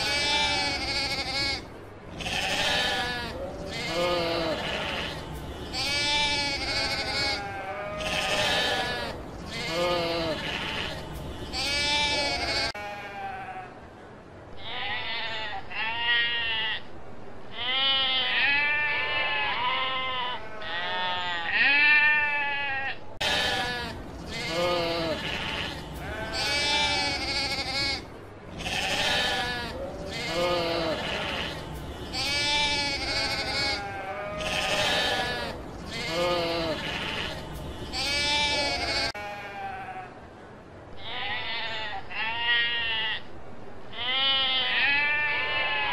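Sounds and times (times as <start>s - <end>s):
sheep bleating: 0.0s - 13.7s, 17.6s - 40.1s, 44.0s - 45.9s.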